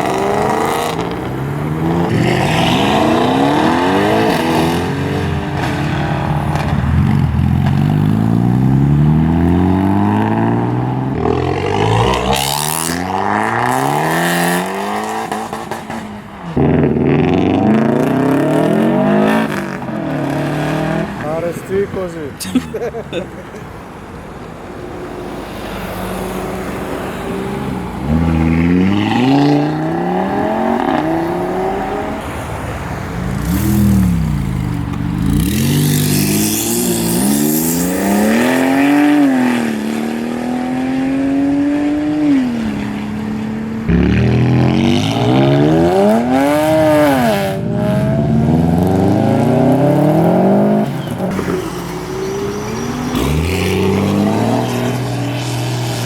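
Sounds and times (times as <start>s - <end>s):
car engine revving: 0.0s - 22.3s, 25.0s - 56.0s.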